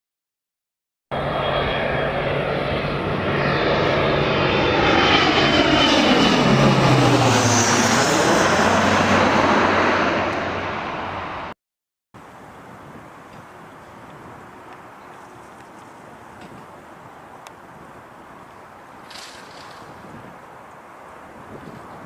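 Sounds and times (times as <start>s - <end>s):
airliner passing overhead: 1.1s - 11.6s, 12.2s - 22.0s.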